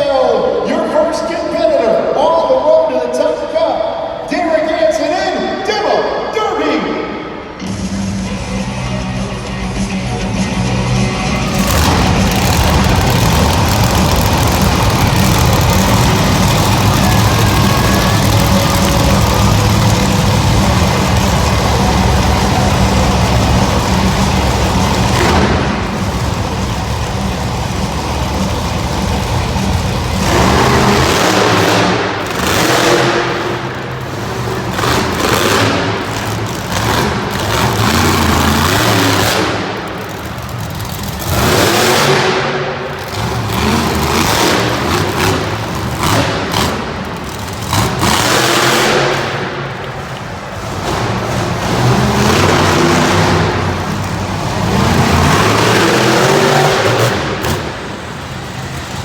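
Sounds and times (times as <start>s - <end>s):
monster truck engine revving: 7.2s - 59.0s.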